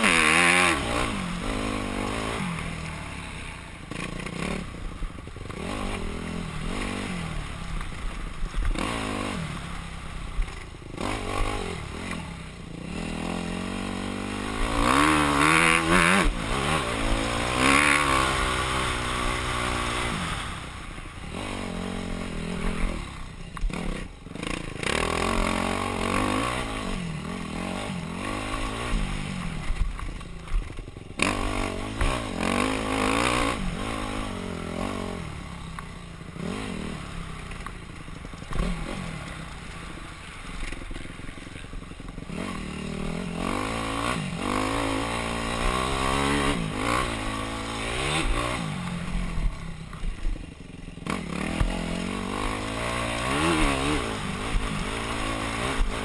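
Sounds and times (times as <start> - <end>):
dirt bike engine revving: 0.0 - 56.0
bike rattling over rough ground: 10.1 - 56.0.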